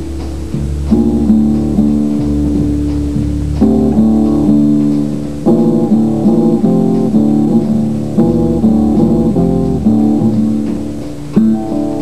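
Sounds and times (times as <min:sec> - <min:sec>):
background music chords: 0:00.0 - 0:12.0.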